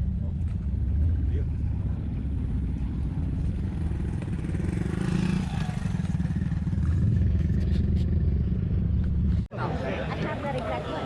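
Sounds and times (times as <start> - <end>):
vehicle engine rumbling: 0.0 - 9.5.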